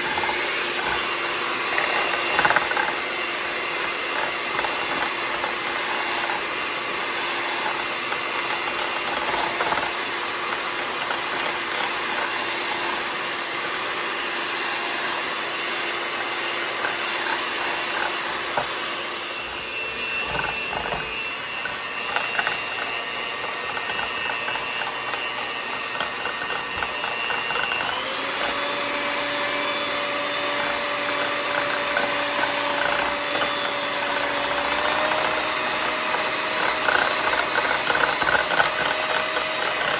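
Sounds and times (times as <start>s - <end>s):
beaters churning liquid: 0.0s - 39.9s
electric hand mixer whine: 0.0s - 39.9s.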